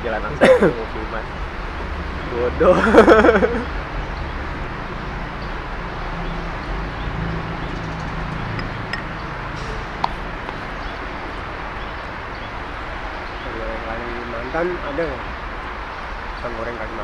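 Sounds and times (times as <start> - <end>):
car cabin road and engine noise: 0.0 - 14.0.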